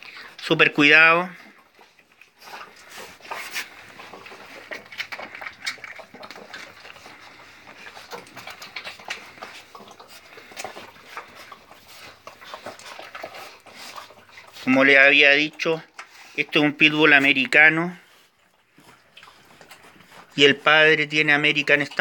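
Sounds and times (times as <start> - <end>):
puppies suckling wet smacks: 0.0 - 22.0.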